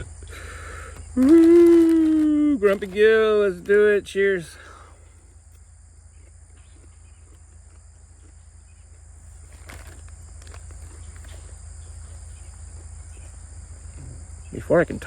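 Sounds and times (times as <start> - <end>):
chewing crunches: 0.0 - 3.8, 4.5 - 14.5
crickets chirring: 0.0 - 15.0
low hum: 0.0 - 15.0.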